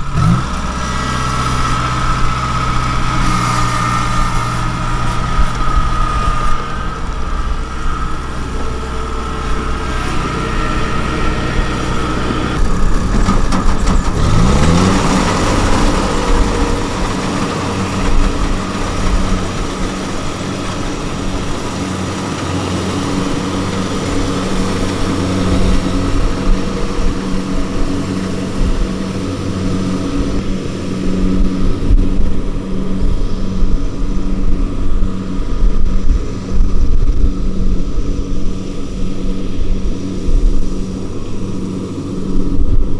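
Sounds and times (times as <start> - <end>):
diesel engine running and revving: 0.0 - 42.9.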